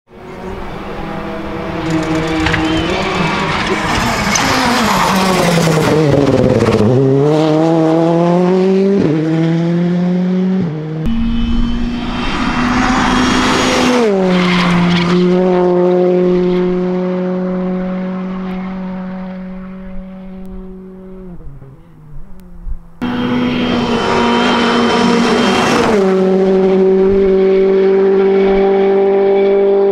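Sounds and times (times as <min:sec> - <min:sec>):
rally car engine passing: 0:00.1 - 0:29.9.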